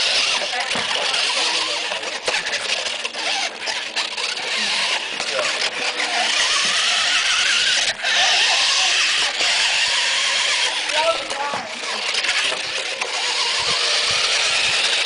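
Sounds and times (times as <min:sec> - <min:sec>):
toy car motor whirring: 0:00.0 - 0:15.0.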